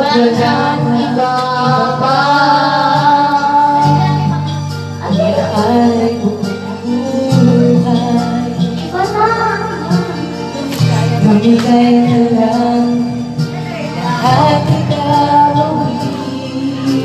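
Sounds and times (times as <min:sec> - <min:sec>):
backing track with bass line: 0:00.0 - 0:17.0
girl singing into a microphone: 0:00.0 - 0:17.0.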